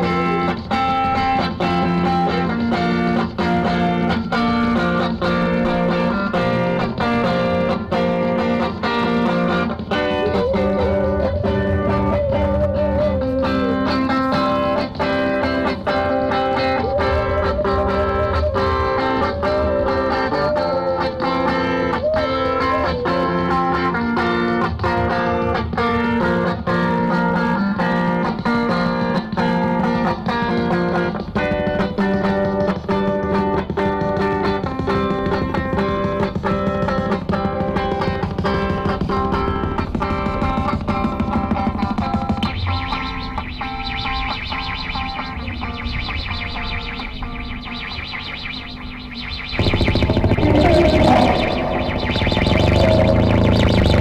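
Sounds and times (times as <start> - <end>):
strummed electric guitar: 0.0 - 48.0, 49.0 - 54.0.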